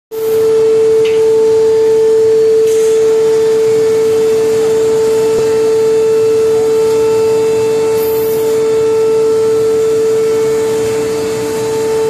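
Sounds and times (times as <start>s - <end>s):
furnace humming high pitch: 0.1s - 12.0s.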